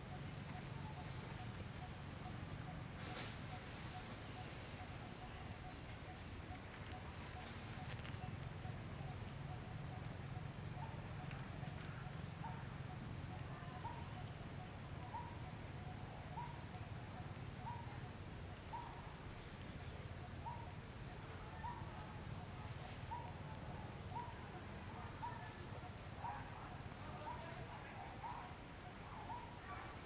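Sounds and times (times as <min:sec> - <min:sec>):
insects chirping: 0:00.1 - 0:30.0.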